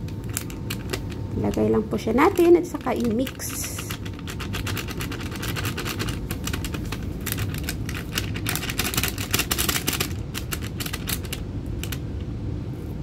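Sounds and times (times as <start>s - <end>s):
plastic sachet crinkling: 0.0s - 12.0s.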